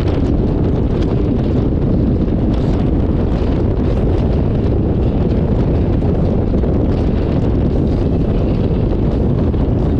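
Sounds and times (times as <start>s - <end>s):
motorcycle road and engine noise: 0.0s - 9.9s
wind buffeting microphone: 0.0s - 9.9s.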